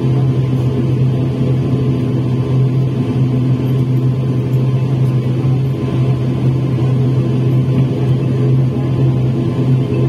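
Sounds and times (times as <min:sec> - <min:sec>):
turboprop engine drone: 0:00.0 - 0:10.0.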